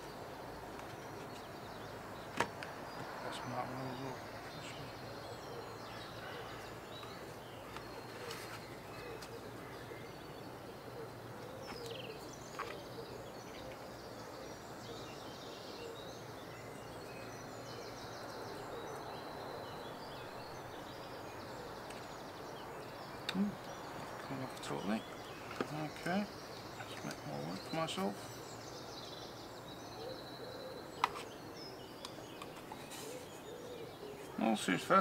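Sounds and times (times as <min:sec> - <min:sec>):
faint background noise: 0:00.0 - 0:35.0.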